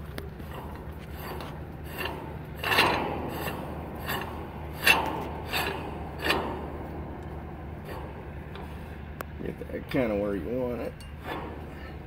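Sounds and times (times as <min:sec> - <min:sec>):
metal scraping on metal: 0:00.0 - 0:12.0.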